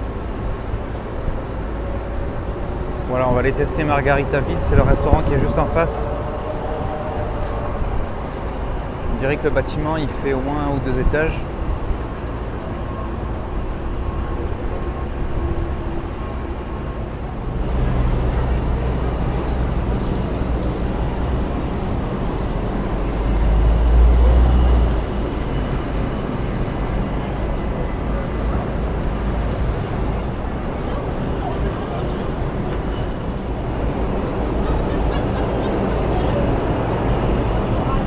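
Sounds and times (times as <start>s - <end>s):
low traffic rumble: 0.0s - 38.0s
passing vehicles: 0.0s - 38.0s.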